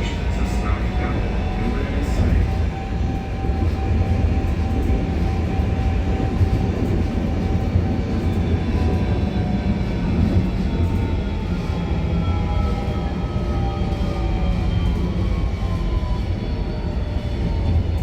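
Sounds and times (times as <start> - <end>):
tram rumble: 0.0 - 18.0.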